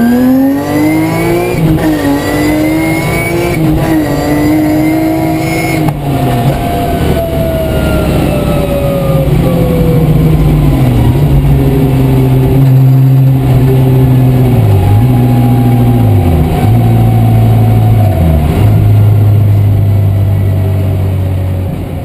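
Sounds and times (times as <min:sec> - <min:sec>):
car engine from inside cabin: 0:00.0 - 0:22.0.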